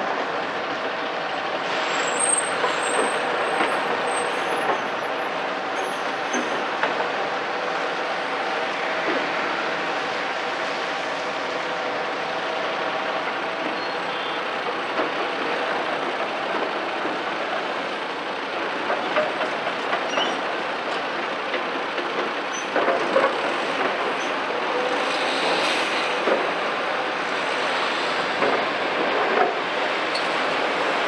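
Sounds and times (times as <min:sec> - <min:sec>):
excavator engine and hydraulics: 0:00.0 - 0:31.0.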